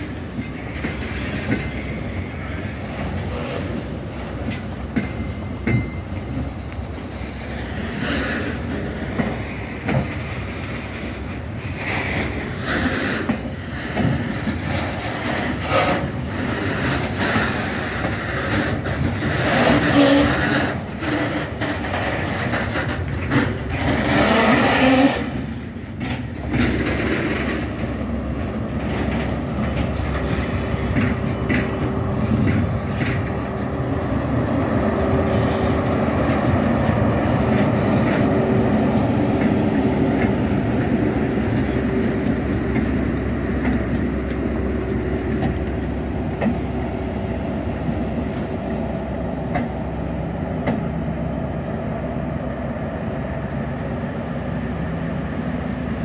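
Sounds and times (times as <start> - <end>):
train wheels clattering on rails: 0.0 - 51.8.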